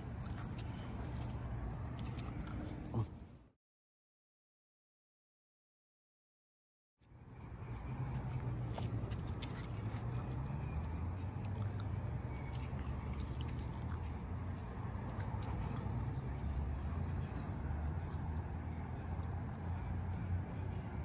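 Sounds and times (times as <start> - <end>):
street ambience rumble: 0.0 - 3.5, 7.1 - 21.0.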